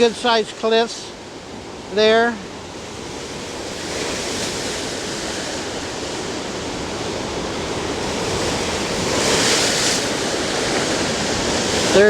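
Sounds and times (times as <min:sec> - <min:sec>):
lake surf washing onto shore: 0:00.0 - 0:12.0
wave breaking: 0:01.9 - 0:12.0.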